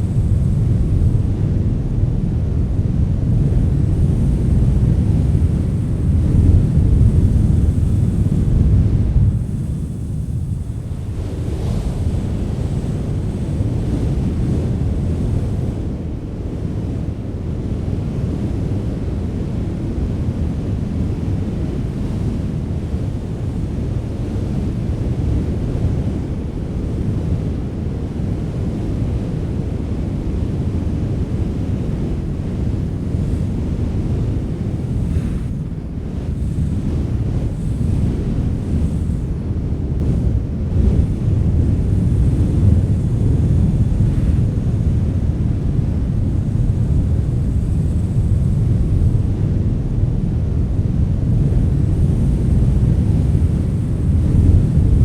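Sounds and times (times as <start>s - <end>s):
wind blowing hard: 0.0s - 55.0s.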